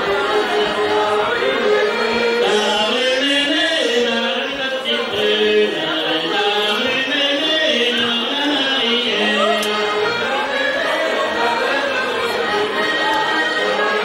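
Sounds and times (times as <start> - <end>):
folk melody with long held notes: 0.0 - 14.0.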